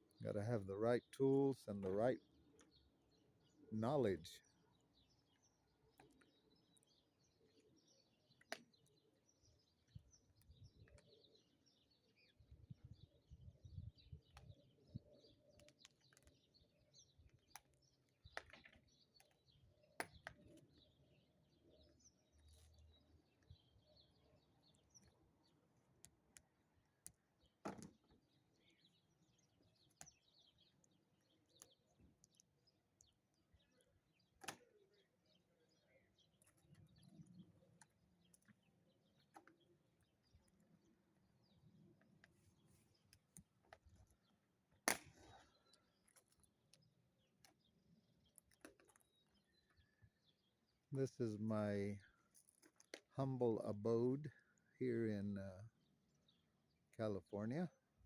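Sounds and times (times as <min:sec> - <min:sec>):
faint bird chirps: 0:00.0 - 0:44.5, 0:45.2 - 0:52.5.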